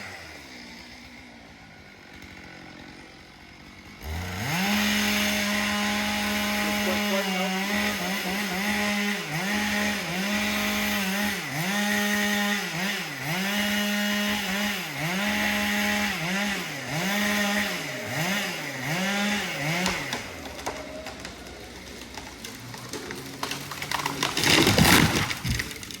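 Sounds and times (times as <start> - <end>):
chainsaw running at high revs: 0.0 - 26.0
wood splintering crack: 2.1 - 16.5, 17.1 - 26.0.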